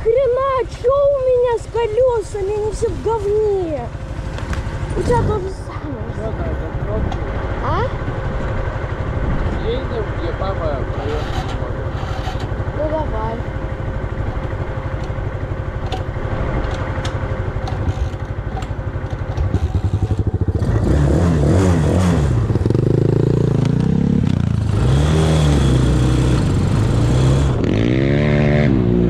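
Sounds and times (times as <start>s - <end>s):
engine clatter: 0.0s - 29.0s
off-road vehicle engine revving: 0.0s - 29.0s.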